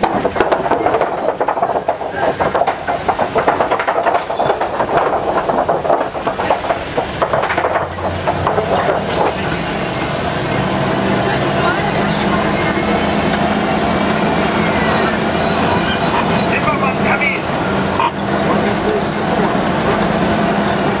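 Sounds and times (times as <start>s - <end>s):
truck engine humming: 0.0s - 21.0s
wooden planks clattering under wheels: 0.0s - 21.0s.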